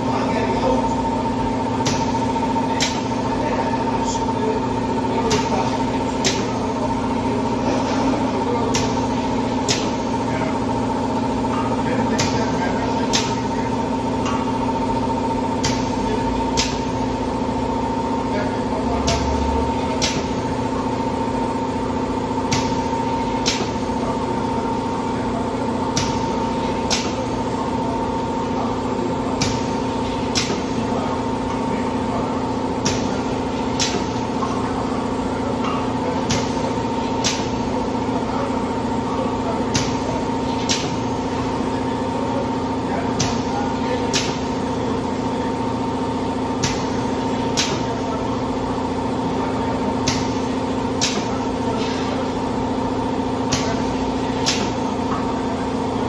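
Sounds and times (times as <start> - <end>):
machine humming drone: 0.0 - 56.0.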